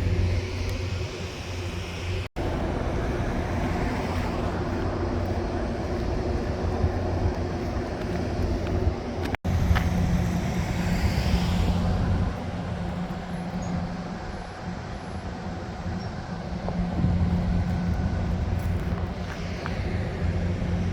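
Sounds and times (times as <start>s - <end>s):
rushing noise: 0.0s - 20.9s
vehicle engine hum: 0.0s - 20.9s.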